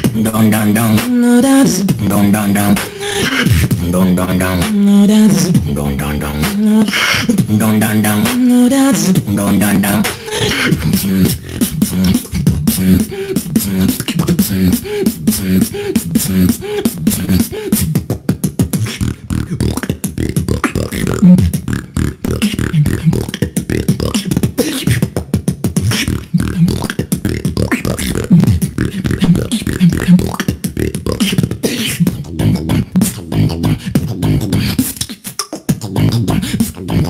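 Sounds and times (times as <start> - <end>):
hummed bass line: 0.0 - 2.8, 3.4 - 25.1, 25.8 - 34.8
beatboxing percussion: 0.0 - 37.0.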